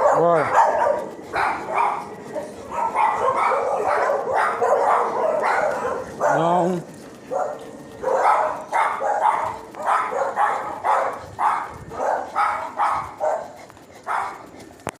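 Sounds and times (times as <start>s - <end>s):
dog barking: 0.0s - 14.5s.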